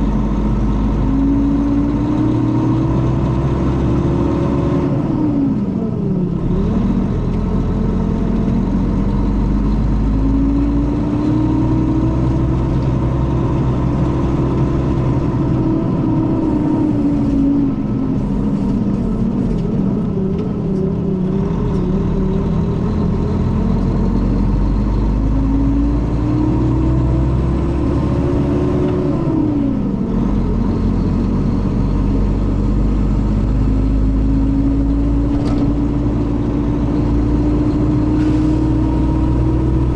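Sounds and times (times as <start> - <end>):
diesel coach engine accelerating: 0.0 - 39.9.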